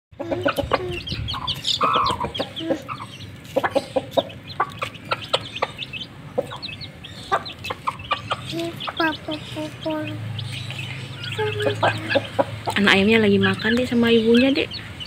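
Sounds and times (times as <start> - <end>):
hen clucking low: 0.2 - 10.2, 11.1 - 13.7
chicks peeping: 0.2 - 15.0.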